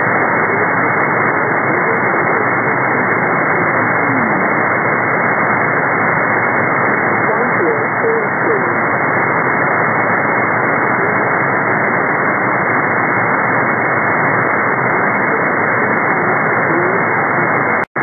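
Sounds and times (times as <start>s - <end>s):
weak radio voice: 0.0s - 5.9s, 6.9s - 17.9s
radio static hiss: 0.0s - 18.0s.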